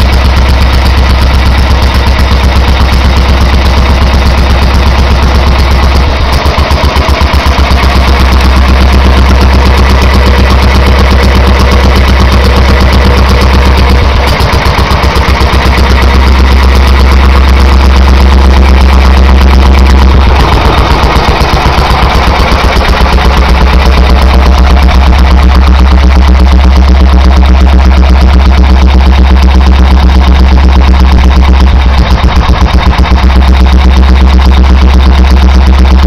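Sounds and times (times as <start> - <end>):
stationary engine running: 0.0 - 36.0.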